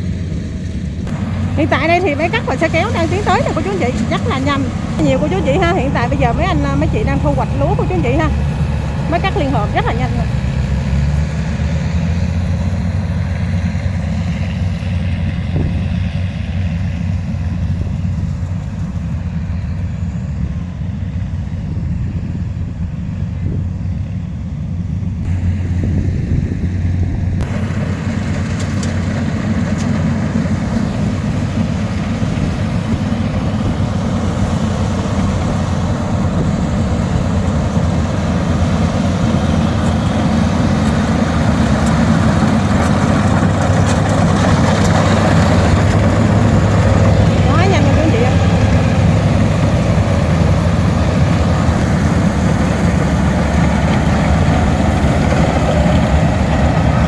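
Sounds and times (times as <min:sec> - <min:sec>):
combine harvester engine: 0:00.0 - 0:57.0
tractor engine running: 0:00.0 - 0:57.0.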